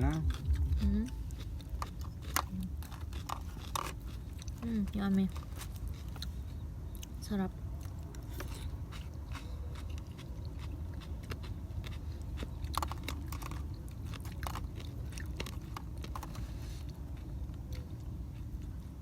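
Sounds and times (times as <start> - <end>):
chewing crunchy food: 0.0 - 19.0
low steady rumble: 0.0 - 19.0.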